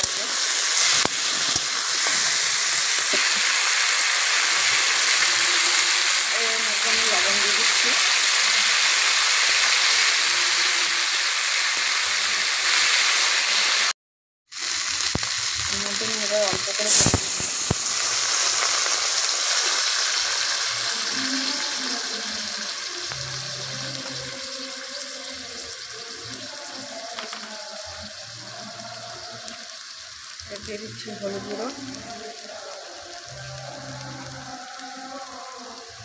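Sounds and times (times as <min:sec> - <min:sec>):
vegetables sizzling in hot oil: 0:00.0 - 0:36.0.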